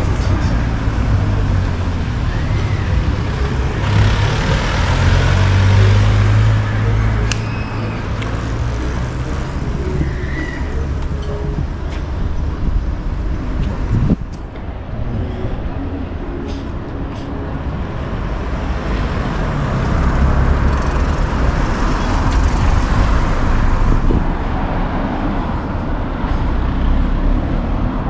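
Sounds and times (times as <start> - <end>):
motor vehicle rumble: 0.0 - 28.0.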